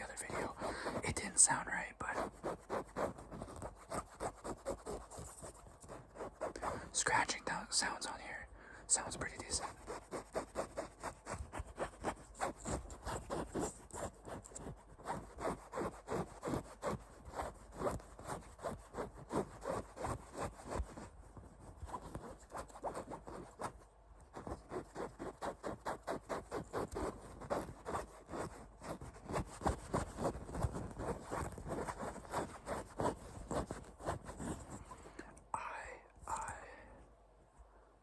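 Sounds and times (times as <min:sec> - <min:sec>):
rhythmic scratching on toy: 0:00.0 - 0:06.9, 0:09.4 - 0:23.8, 0:24.4 - 0:34.8.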